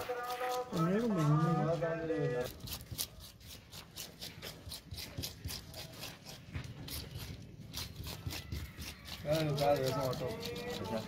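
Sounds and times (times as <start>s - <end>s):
knife scraping fish scales: 0.0s - 1.8s, 2.4s - 11.0s.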